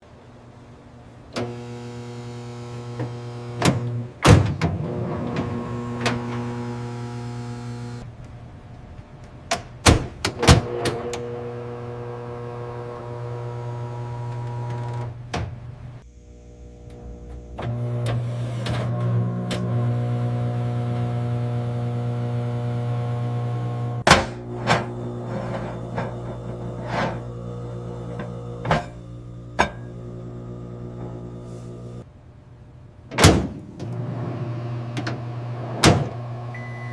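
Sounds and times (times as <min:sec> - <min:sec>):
microwave oven humming: 0:01.3 - 0:04.1, 0:04.7 - 0:08.0, 0:10.6 - 0:32.0, 0:33.7 - 0:36.9.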